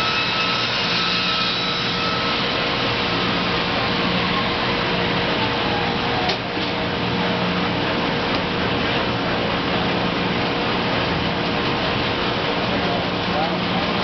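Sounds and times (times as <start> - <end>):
machine motors and fans rushing: 0.0 - 14.0.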